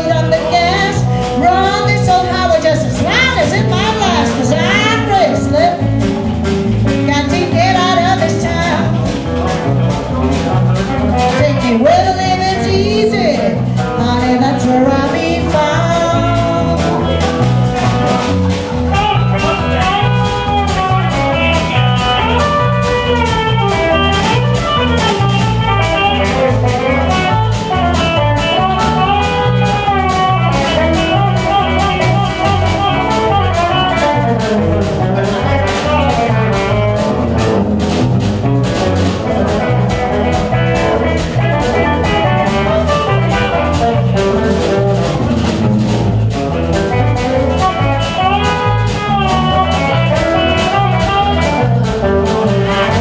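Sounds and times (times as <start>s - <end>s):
bass: 0.0s - 53.0s
drum beat: 0.0s - 53.0s
lead guitar with bending notes: 0.0s - 53.0s.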